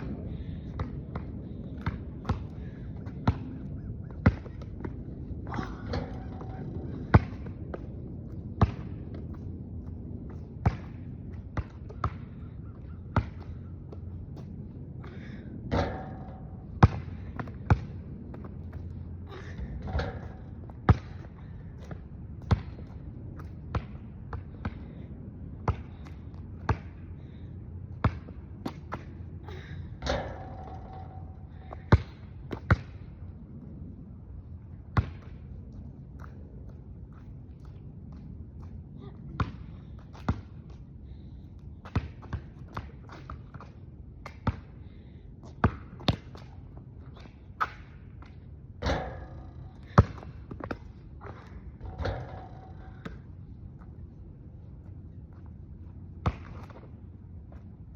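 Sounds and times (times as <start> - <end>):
low background hum: 0.0 - 57.9.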